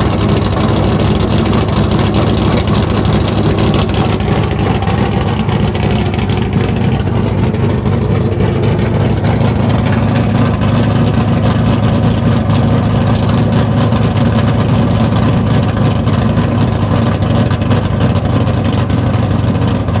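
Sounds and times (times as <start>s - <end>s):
engine idling rough: 0.0s - 20.0s.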